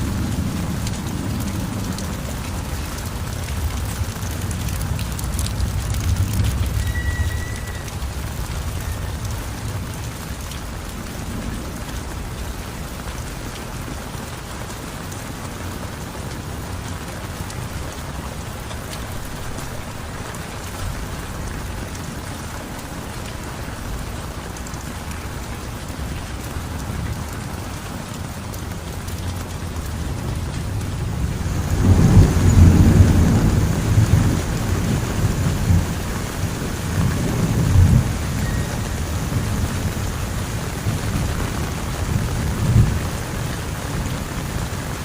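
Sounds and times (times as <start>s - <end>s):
low rumble of thunder: 0.0s - 14.2s, 16.6s - 45.0s
heavy rain falling: 0.0s - 45.0s.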